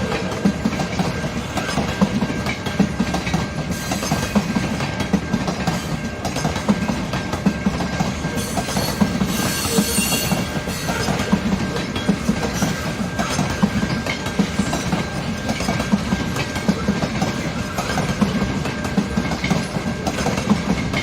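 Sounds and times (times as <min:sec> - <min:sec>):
train wheels clacking on rail joints: 0:00.0 - 0:21.0.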